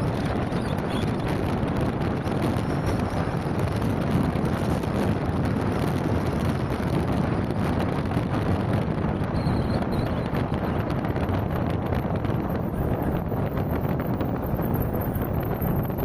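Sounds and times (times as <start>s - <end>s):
car road noise: 0.0s - 16.0s
wind on microphone: 0.0s - 16.0s.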